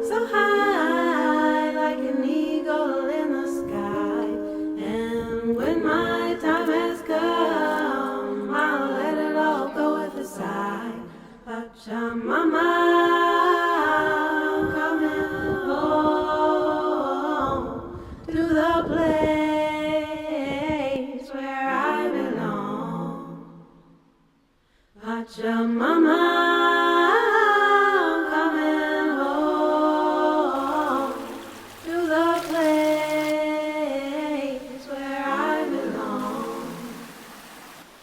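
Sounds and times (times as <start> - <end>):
a cappella voices in harmony: 0.0 - 38.0.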